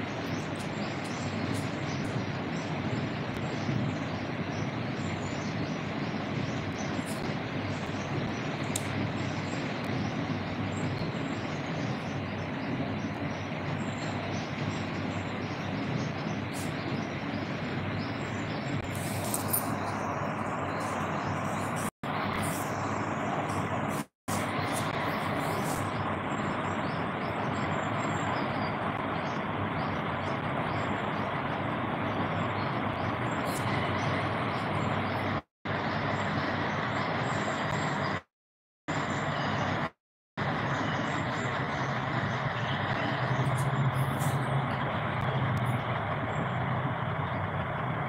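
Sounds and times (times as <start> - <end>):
steady rushing noise: 0.0 - 38.3, 38.9 - 48.0.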